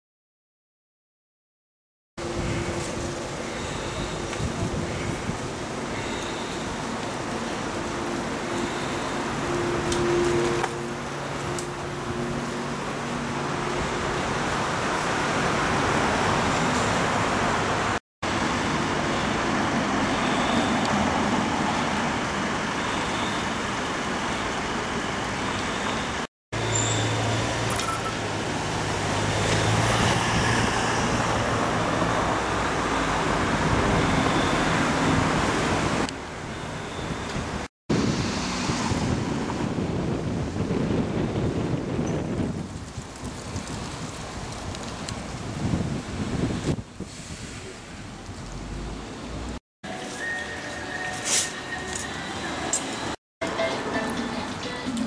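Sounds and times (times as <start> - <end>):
vehicles driving past: 2.2 - 55.0.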